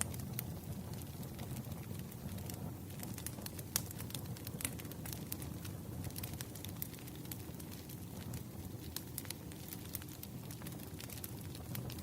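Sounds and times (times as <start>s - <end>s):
burning wood crackling: 0.0s - 12.0s
flames rumbling: 0.0s - 12.0s.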